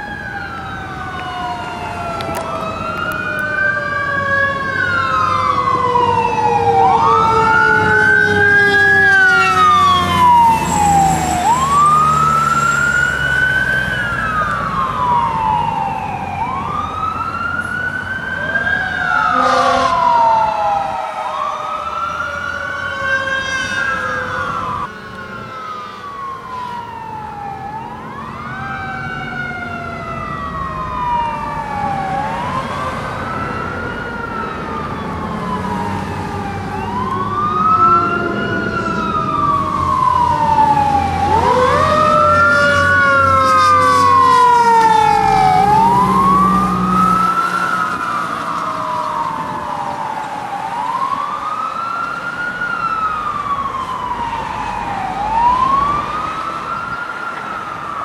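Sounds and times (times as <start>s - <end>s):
fire engine sirens wailing: 0.0s - 58.0s
lower siren sweeping: 0.0s - 58.0s.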